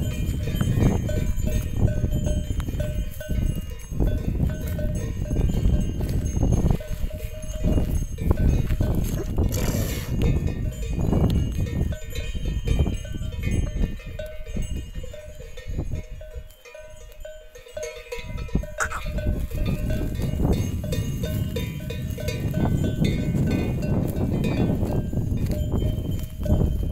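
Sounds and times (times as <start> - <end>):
cattle bells ringing: 0.0 - 26.9
wind rumble on microphone: 0.0 - 26.9.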